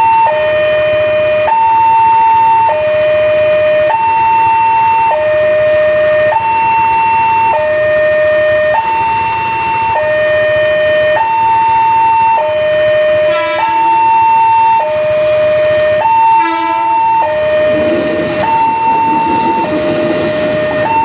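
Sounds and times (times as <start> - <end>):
level crossing two-tone alarm: 0.0 - 21.0.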